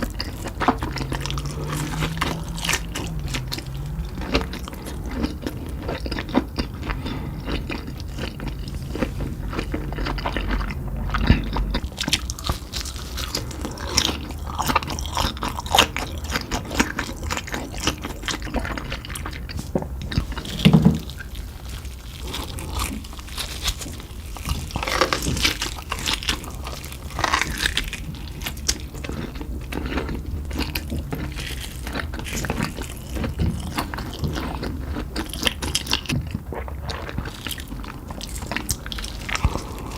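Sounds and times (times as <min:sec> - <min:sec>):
crunchy bites and chewing: 0:00.0 - 0:39.9.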